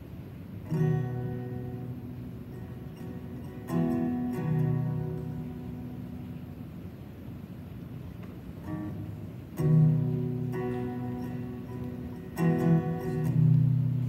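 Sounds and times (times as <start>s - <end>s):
acoustic guitar chords strummed: 0.0s - 14.0s.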